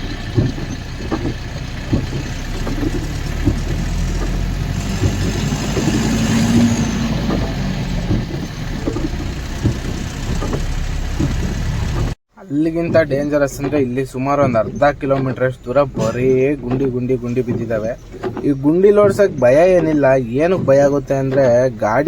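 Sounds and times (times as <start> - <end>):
cab knocks and rattles: 0.0 - 22.0
lorry diesel engine running: 0.0 - 22.0.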